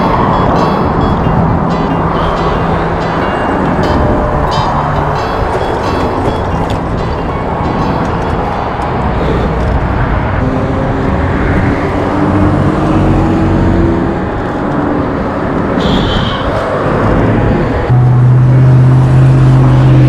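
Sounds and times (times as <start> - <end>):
motor traffic passing: 0.0 - 20.0
road noise: 0.0 - 20.0.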